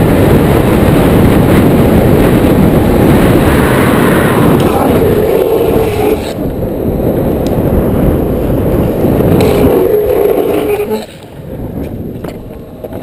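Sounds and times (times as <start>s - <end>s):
longboard wheels rolling on asphalt: 0.0s - 13.0s
wind noise on microphone: 0.0s - 13.0s.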